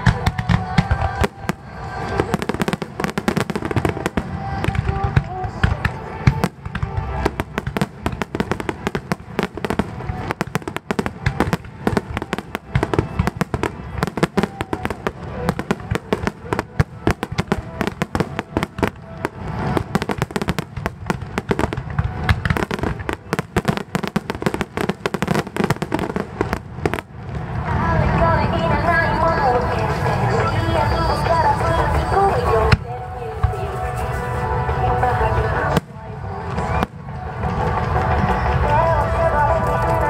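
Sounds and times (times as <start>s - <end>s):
fireworks bursting: 0.0s - 40.0s
fireworks crackle: 0.0s - 40.0s.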